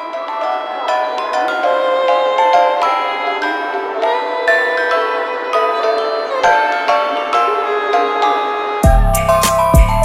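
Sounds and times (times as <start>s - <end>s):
mallet instrument melody: 0.0s - 10.0s.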